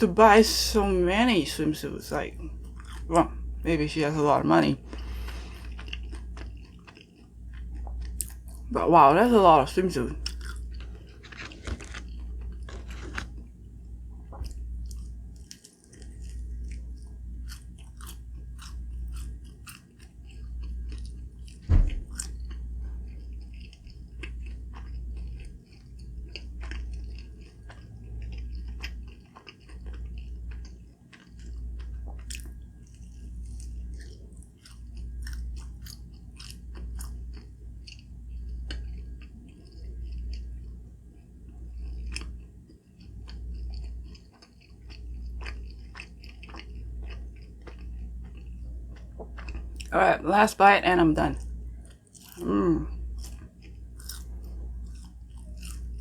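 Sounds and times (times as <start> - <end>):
person chewing and biting food: 2.4 - 3.4, 4.8 - 8.7, 10.0 - 49.9, 51.4 - 56.0.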